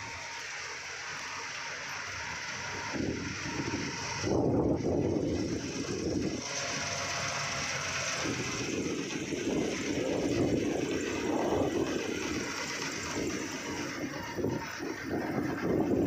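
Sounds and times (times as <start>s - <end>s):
combine harvester drone: 0.0s - 16.0s.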